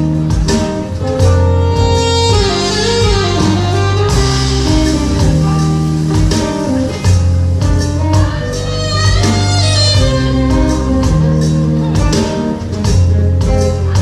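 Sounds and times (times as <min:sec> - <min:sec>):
live latin band music: 0:00.0 - 0:14.0.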